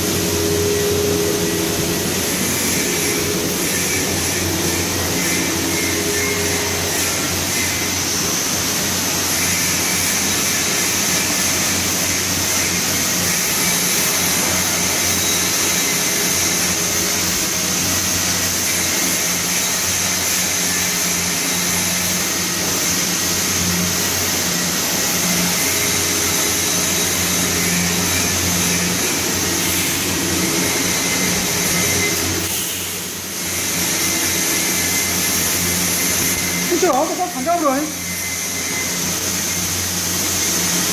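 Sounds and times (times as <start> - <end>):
machinery whirring and hissing: 0.0 - 40.9.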